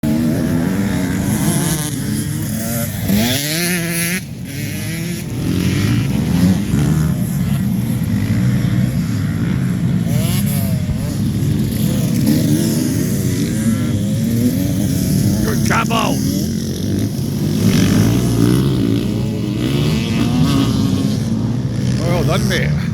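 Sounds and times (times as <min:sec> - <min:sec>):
motocross bike engines revving: 0:00.0 - 0:22.9.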